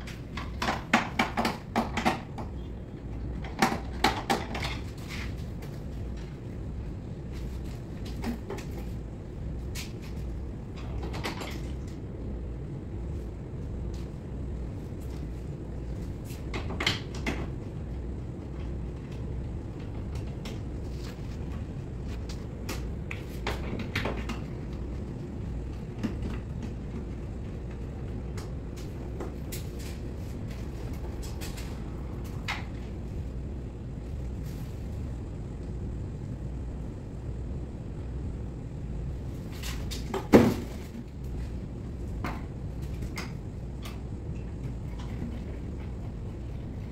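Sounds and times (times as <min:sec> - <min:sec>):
steady low hum: 0:00.0 - 0:46.9
steady low rumble: 0:04.6 - 0:39.9, 0:40.7 - 0:46.9.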